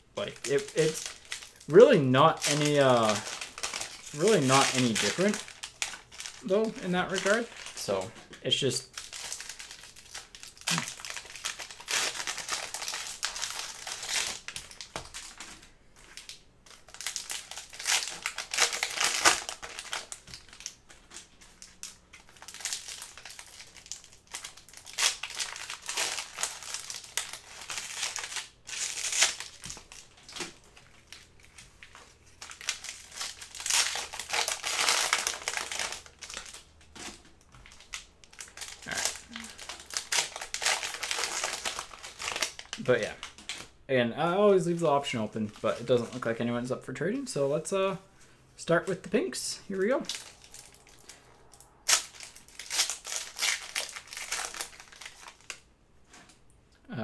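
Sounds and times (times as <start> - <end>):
foil wrappers crinkling: 0.2 - 43.7, 44.6 - 46.6, 49.7 - 56.2.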